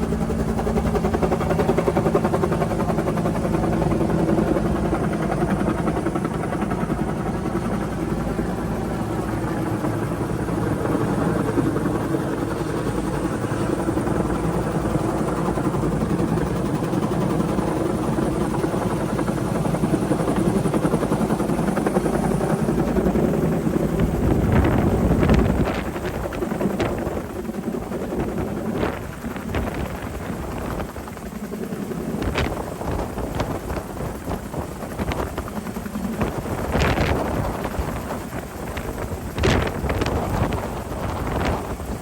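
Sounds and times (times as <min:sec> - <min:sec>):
helicopter turbine and rotor: 0:00.0 - 0:42.0.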